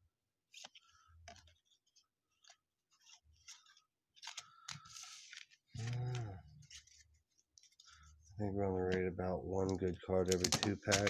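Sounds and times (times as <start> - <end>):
trading cards rustling and clicking: 0.5 - 11.0.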